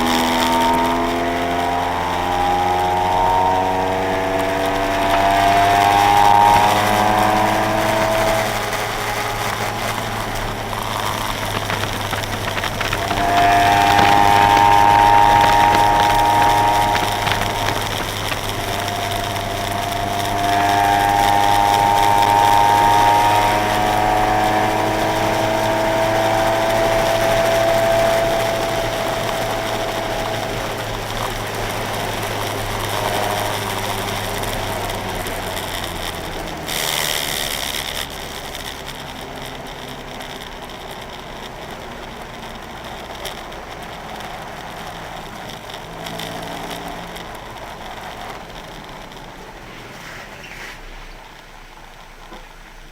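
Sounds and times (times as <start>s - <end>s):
car engine revving hard: 0.0s - 42.6s.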